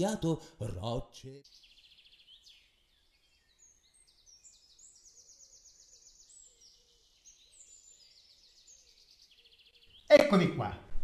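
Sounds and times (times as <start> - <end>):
small birds chirping and trilling: 0.1 - 10.9.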